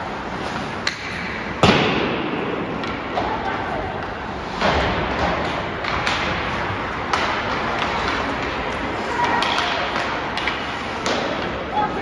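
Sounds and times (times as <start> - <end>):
skates scraping on ice: 0.0 - 12.0
sticks hitting puck: 0.3 - 12.0
puck hitting boards: 0.8 - 11.7.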